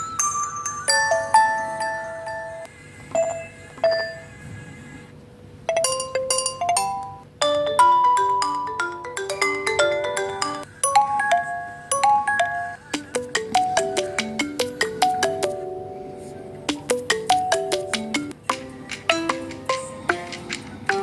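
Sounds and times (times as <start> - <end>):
phone ringtone melody: 0.0 - 4.4, 5.7 - 18.4.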